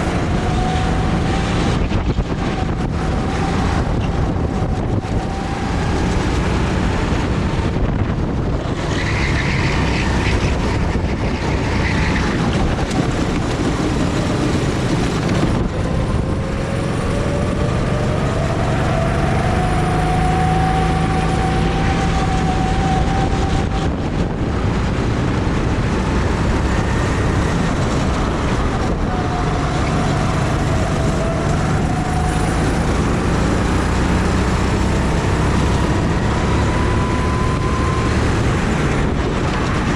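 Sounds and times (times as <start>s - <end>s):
go-kart engines running: 0.0s - 39.9s
steady rushing noise: 0.0s - 39.9s.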